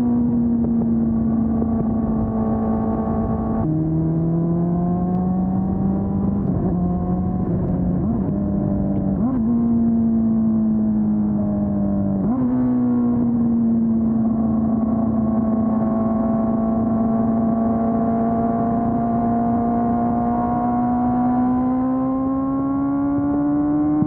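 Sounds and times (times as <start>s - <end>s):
motorcycle engine running: 0.0s - 12.3s, 13.1s - 20.8s
road and wind noise: 0.0s - 24.0s.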